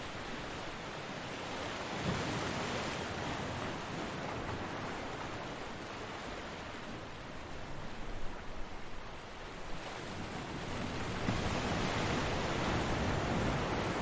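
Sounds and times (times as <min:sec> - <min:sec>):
ocean surf washing on beach: 0:00.0 - 0:14.0.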